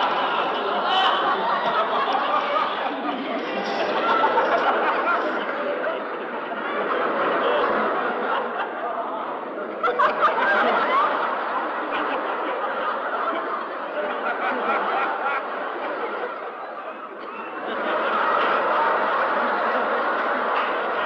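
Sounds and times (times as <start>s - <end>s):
people laughing: 0.0s - 21.0s.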